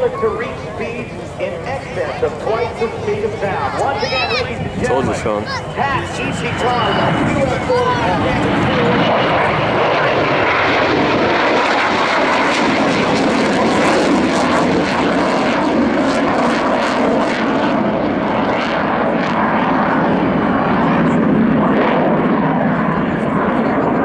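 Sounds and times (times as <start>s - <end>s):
jet engine roar with crackle: 0.0s - 24.0s.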